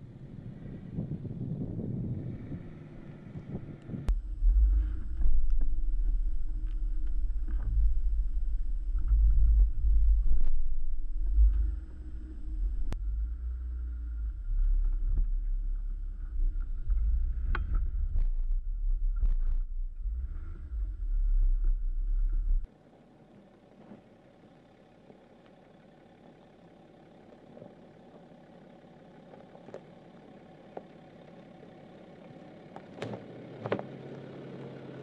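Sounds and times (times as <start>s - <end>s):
vehicle rumbling over rocky dirt: 0.6s - 22.7s, 27.2s - 35.0s.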